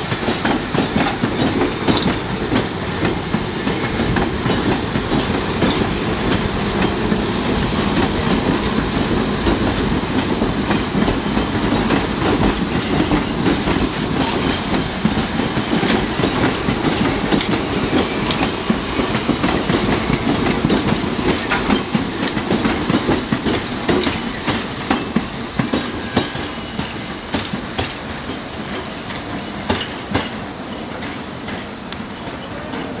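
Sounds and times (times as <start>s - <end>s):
wheels clacking over rail joints: 0.0s - 7.2s, 8.0s - 33.0s
train rumble on elevated track: 0.0s - 33.0s.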